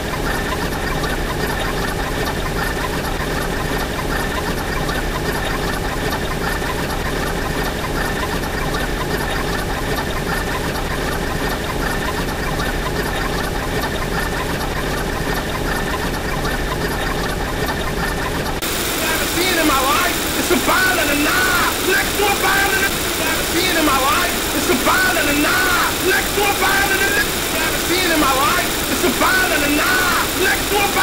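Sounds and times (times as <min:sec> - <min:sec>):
fast even ticking: 0:00.0 - 0:31.0
layered soundtrack noise: 0:00.0 - 0:31.0.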